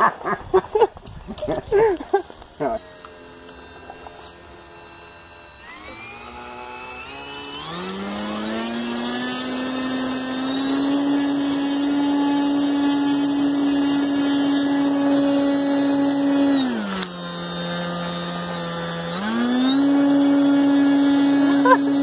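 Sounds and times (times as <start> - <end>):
electric motor and propeller whine: 0.0 - 22.0.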